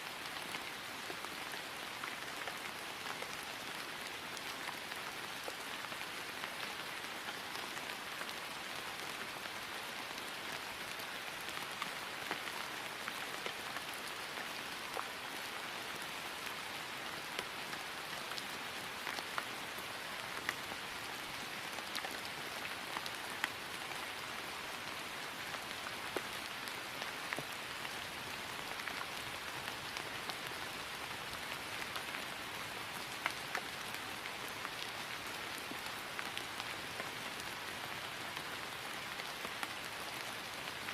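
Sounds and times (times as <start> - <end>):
rain falling on grass: 0.0 - 40.9.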